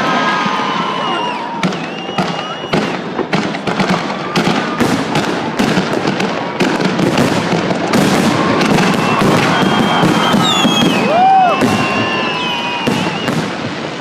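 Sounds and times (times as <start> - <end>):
fireworks crackling bangs: 0.0 - 14.0.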